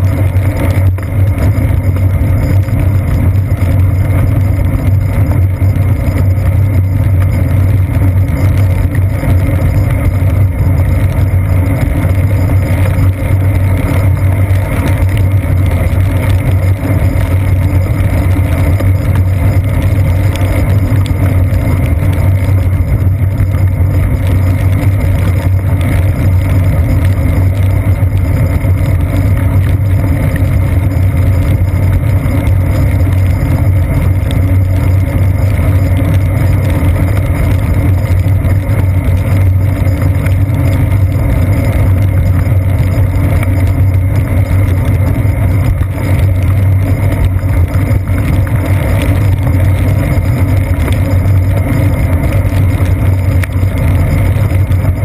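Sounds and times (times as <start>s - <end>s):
low rumble of wind: 0.0s - 55.0s
road vibration: 0.0s - 55.0s.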